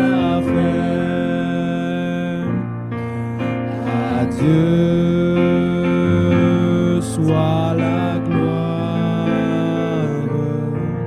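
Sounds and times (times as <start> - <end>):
electric keyboard chords: 0.0 - 11.0
person singing worship song: 0.0 - 11.0.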